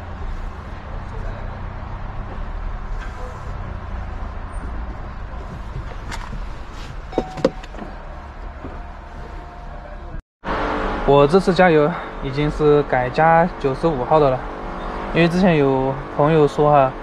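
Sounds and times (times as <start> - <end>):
car low rumble: 0.0 - 17.0.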